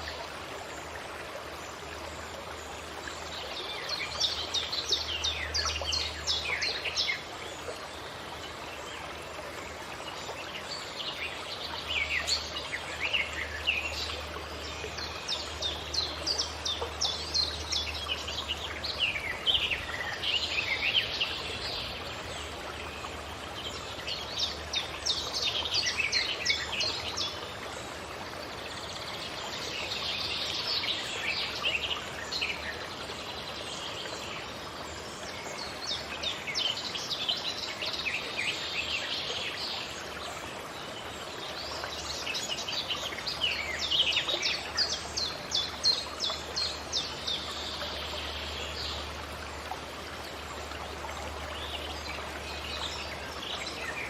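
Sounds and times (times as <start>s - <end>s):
songbirds chirping: 0.0s - 54.0s
steady background hiss: 0.0s - 54.0s.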